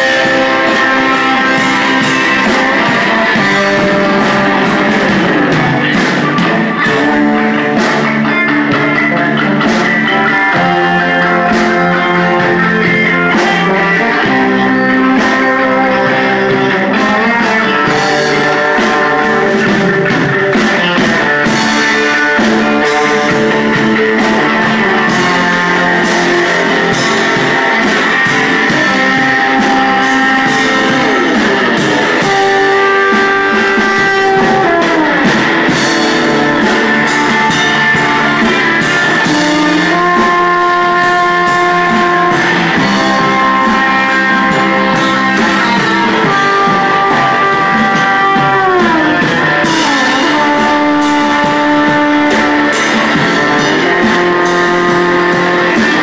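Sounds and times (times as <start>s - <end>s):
drums keeping steady beat: 0.0s - 56.0s
electric guitar bending notes: 0.0s - 56.0s.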